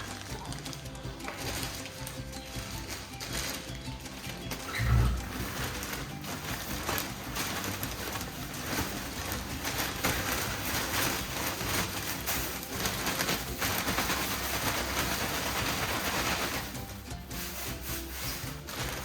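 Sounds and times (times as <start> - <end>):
wood shavings rustling: 0.0 - 19.0.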